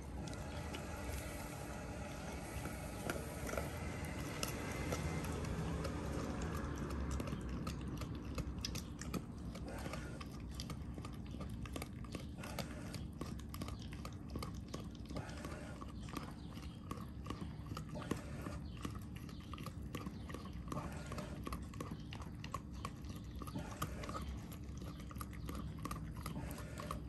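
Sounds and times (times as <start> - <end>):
dog gnawing on bone: 0.0 - 27.0.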